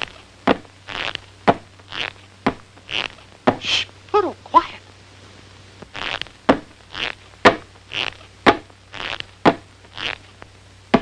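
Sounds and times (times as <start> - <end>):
faint film soundtrack hum: 0.0 - 11.0.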